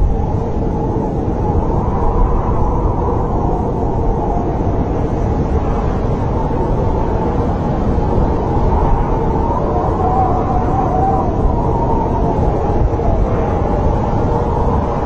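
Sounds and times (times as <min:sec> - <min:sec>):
wind rushing rumble: 0:00.0 - 0:15.0.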